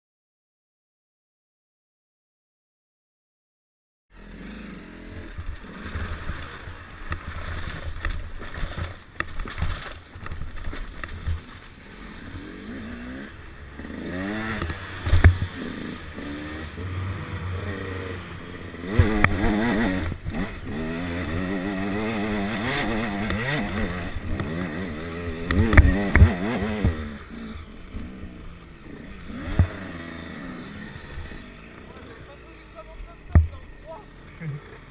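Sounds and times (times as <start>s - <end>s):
motorcycle engine revving: 4.1s - 34.9s.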